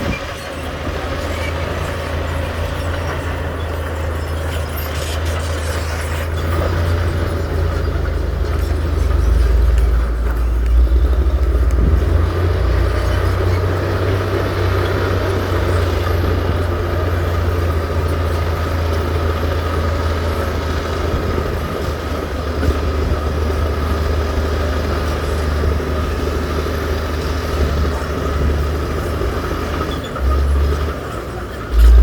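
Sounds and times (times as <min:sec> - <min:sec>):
heavy diesel engine rumbling: 0:00.0 - 0:32.0.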